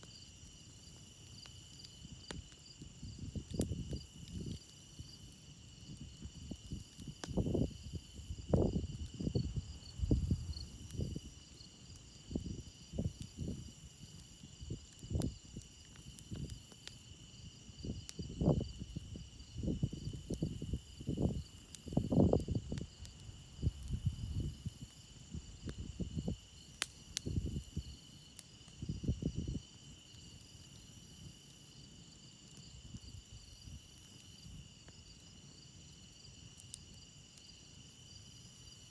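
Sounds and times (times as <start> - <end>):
crickets chirping: 0.0 - 38.9
campfire popping and rumbling: 0.1 - 37.4.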